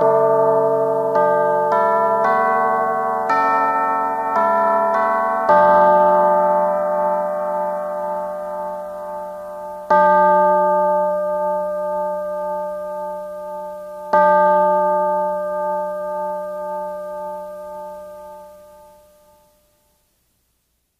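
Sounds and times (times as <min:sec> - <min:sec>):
bell-like instrument ringing: 0:00.0 - 0:19.6.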